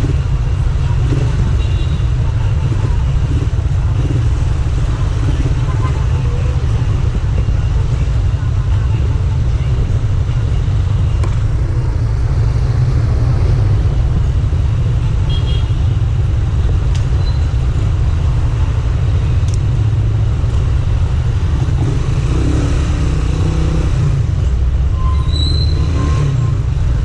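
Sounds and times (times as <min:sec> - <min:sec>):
motorcycle engines rumbling: 0:00.0 - 0:27.0.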